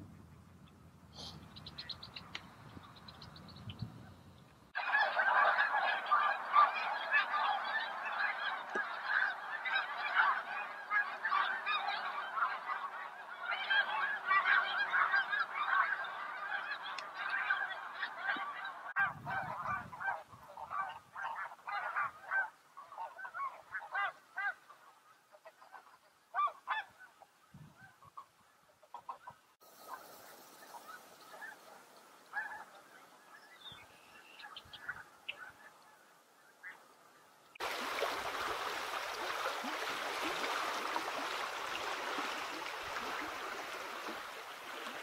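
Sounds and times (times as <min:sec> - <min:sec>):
flock of geese honking: 0:04.8 - 0:45.0.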